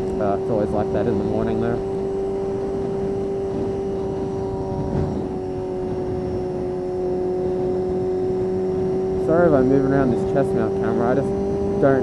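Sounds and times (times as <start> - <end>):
motorcycle engine at high revs: 0.0 - 12.0
wind noise: 0.0 - 12.0.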